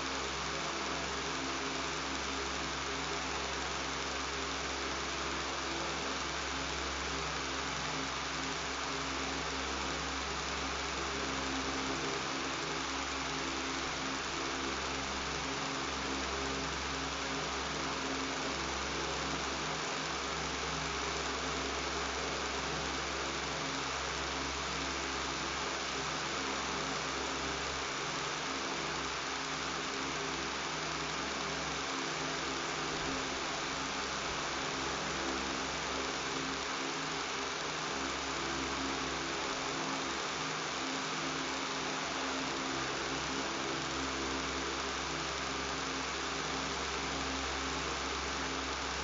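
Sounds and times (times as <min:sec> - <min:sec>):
electric fan running: 0:00.0 - 0:49.0.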